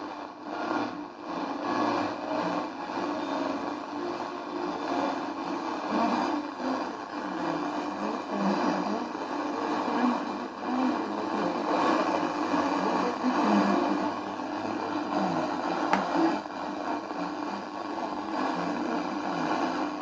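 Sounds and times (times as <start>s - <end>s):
radio static: 0.0s - 20.0s.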